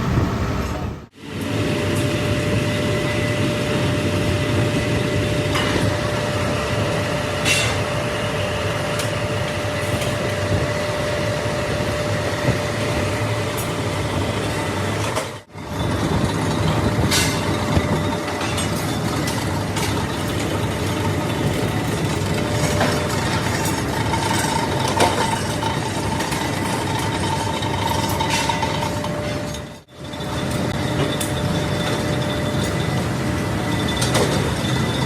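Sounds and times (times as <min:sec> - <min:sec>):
factory machinery hum: 0:00.0 - 0:35.0.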